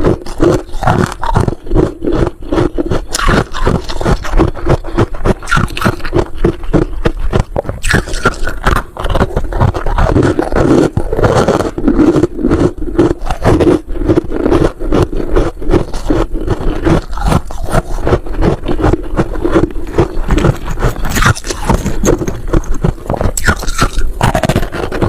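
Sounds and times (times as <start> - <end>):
freezer frost crunching: 0.0 - 25.0.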